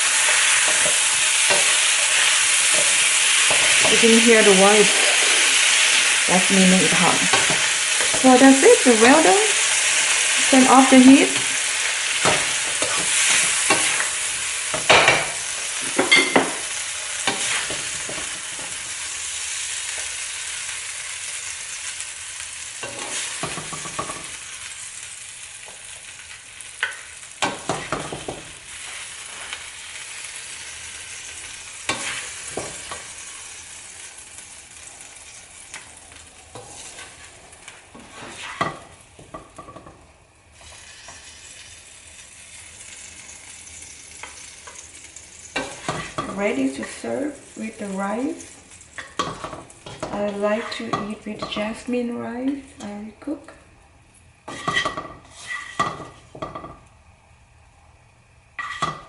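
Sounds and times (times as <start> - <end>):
spatula scraping wok: 0.0 - 22.0, 22.8 - 24.4, 25.6 - 40.0, 43.0 - 51.8, 54.4 - 56.7, 58.6 - 59.0
food sizzling in a wok: 0.0 - 59.0.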